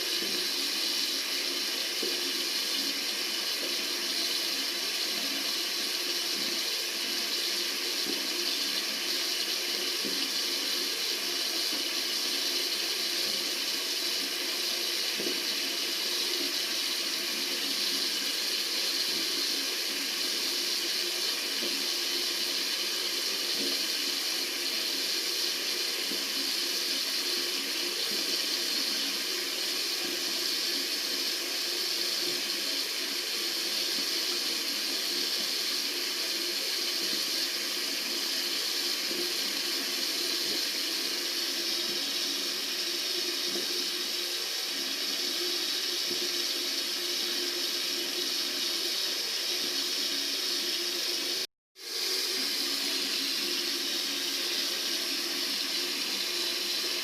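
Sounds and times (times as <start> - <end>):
tap water running into sink: 0.0 - 57.0.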